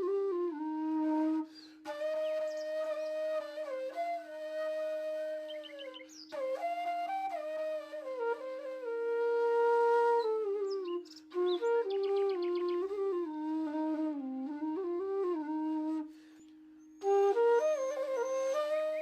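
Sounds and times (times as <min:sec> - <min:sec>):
flute melody: 0:00.0 - 0:19.0.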